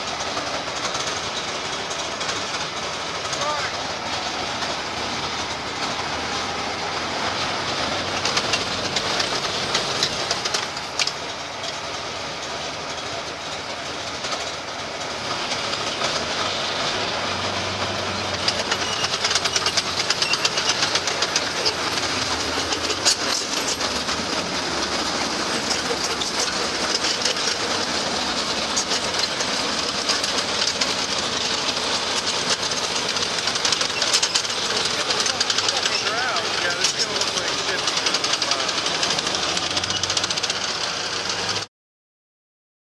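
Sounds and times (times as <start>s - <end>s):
tank engine rattling clatter: 0.0s - 41.7s.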